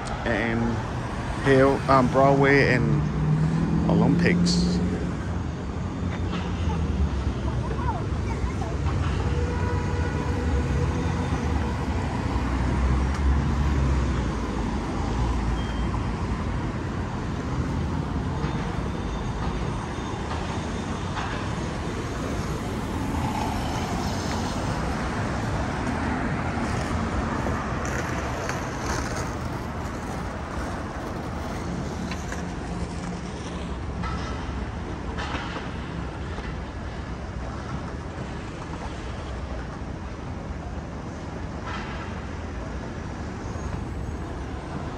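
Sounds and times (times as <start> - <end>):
cars passing: 0.0 - 44.9
engine and tyre rumble: 0.0 - 44.9.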